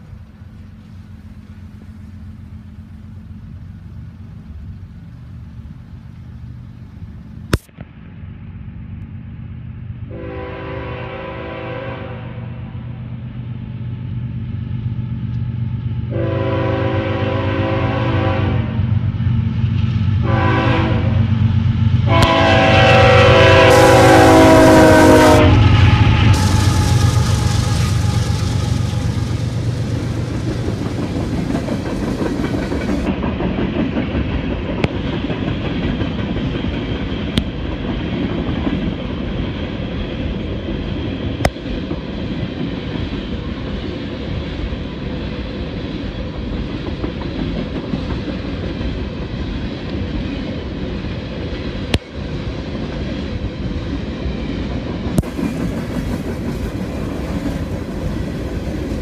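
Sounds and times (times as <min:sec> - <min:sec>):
locomotive engine drone: 0:00.0 - 0:59.0
train wheels rumbling on rails: 0:00.0 - 0:59.0.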